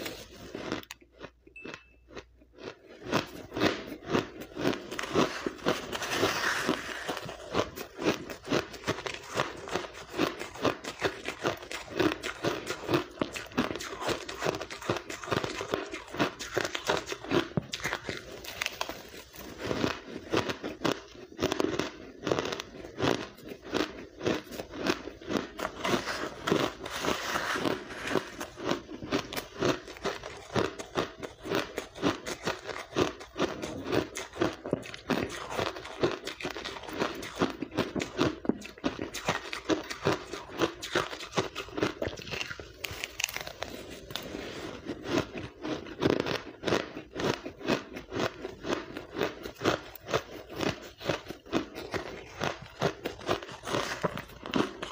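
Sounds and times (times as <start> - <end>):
crunching ice: 2.1 - 54.9.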